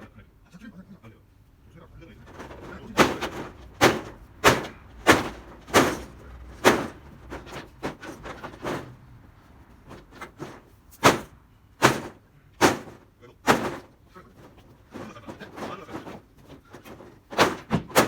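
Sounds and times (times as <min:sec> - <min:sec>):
tin roofing sheets banging: 0:01.9 - 0:18.0.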